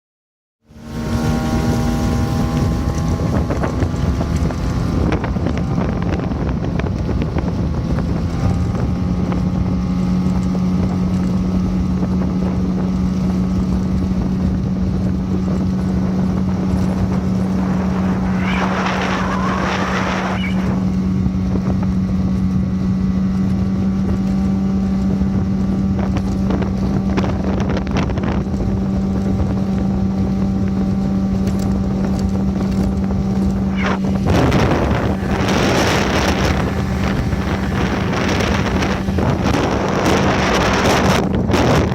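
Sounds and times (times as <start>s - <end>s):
small boat engine running: 0.6s - 41.9s
water noise: 0.6s - 41.9s
wind: 0.6s - 41.9s.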